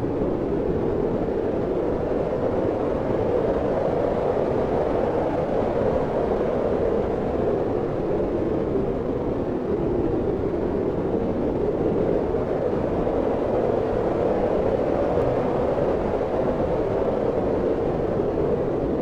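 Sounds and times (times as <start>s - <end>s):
wind blowing steadily: 0.0s - 19.0s.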